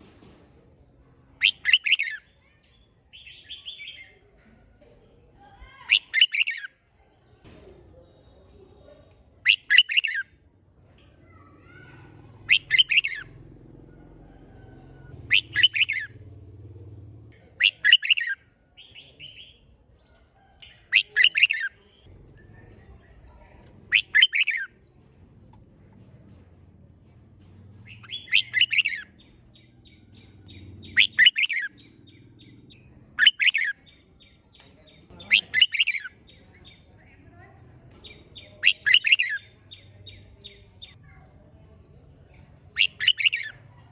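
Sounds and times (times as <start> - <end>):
bulbul singing: 1.2 - 4.2, 5.7 - 6.8, 8.1 - 10.4, 11.3 - 19.7, 20.4 - 43.9.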